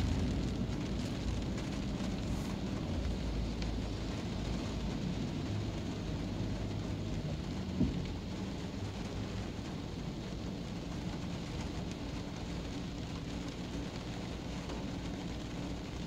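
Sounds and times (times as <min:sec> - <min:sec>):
low rumble of car and traffic: 0:00.0 - 0:16.0
rain on a car roof: 0:00.0 - 0:16.0.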